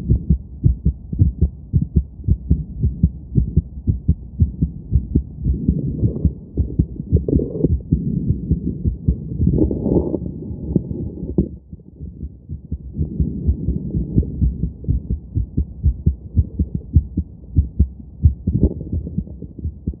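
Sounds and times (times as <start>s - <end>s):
heartbeat through stethoscope: 0.0s - 20.0s.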